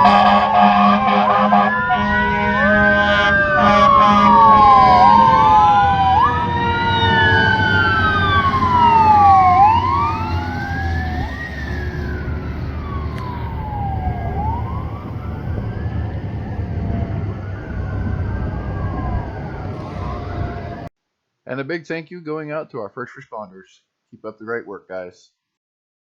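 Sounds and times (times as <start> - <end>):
blaring horn: 0.0 - 20.9
fire sirens wailing: 0.0 - 20.9
truck rumble: 0.0 - 20.9.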